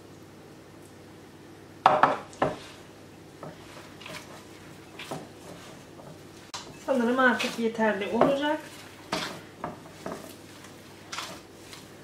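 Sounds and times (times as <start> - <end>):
hands kneading dough: 2.2 - 12.0.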